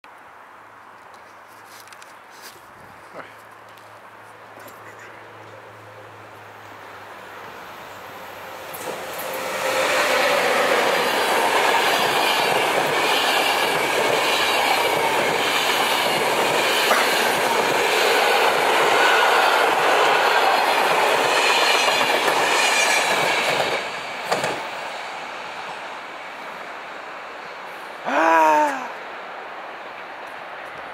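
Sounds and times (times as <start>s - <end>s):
train passing at speed: 5.2s - 30.8s.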